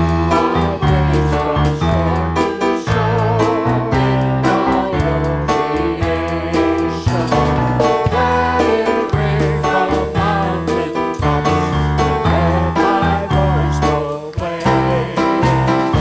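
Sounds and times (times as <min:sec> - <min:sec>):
electric keyboard: 0:00.0 - 0:16.0
person singing: 0:00.0 - 0:16.0
upbeat praise band music: 0:00.0 - 0:16.0.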